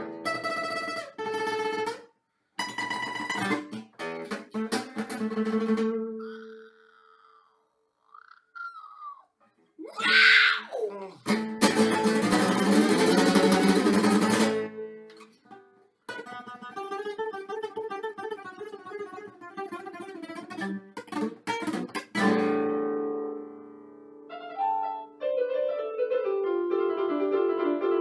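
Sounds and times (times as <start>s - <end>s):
classical guitar playing: 0.0s - 6.7s, 11.2s - 27.9s.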